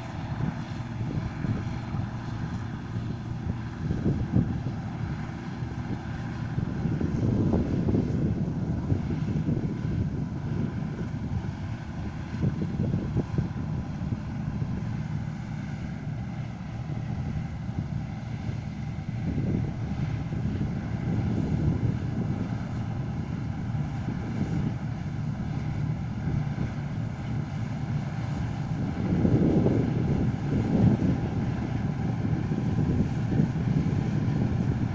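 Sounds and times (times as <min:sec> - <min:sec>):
combine harvester engine drone: 0:00.0 - 0:34.9
faint steady whining tones: 0:00.0 - 0:34.9.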